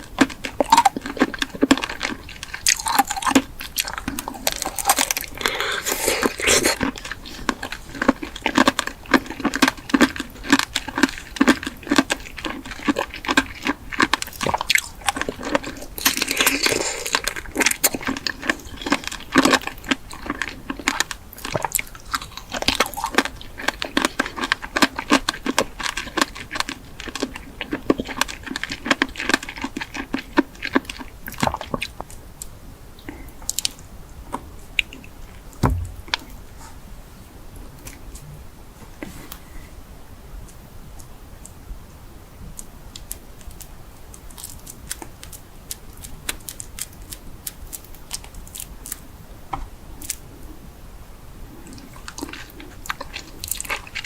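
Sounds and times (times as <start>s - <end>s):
chewing and crunching food: 0.0s - 36.8s, 42.5s - 50.8s, 51.4s - 54.0s.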